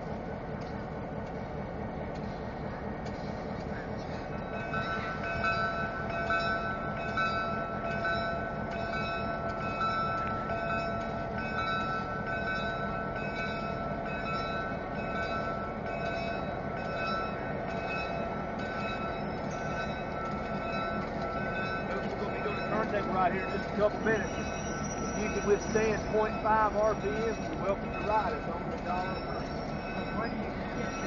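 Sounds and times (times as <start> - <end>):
diesel locomotive idling: 0.0 - 31.0
pulsing high whine: 0.0 - 31.0.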